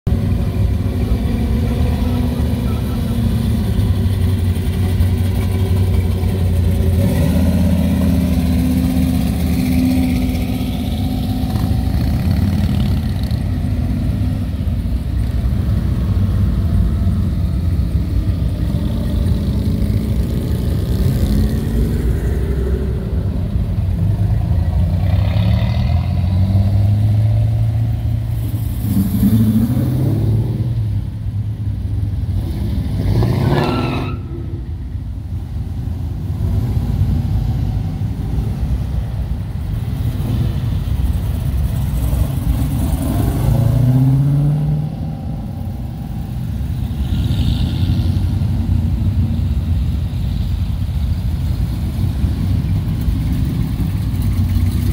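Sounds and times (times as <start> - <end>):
car engines revving: 0.1 - 54.9
motorcycle engines revving: 0.1 - 54.9.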